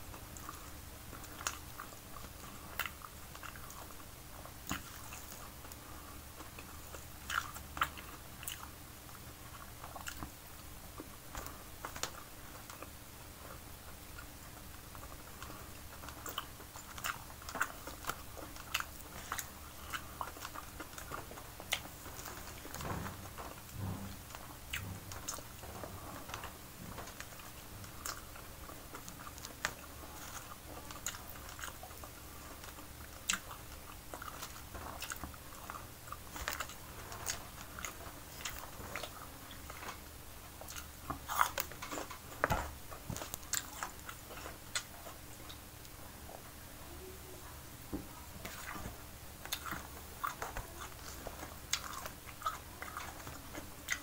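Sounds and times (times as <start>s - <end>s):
person chewing food: 0.0s - 46.5s, 48.4s - 54.0s.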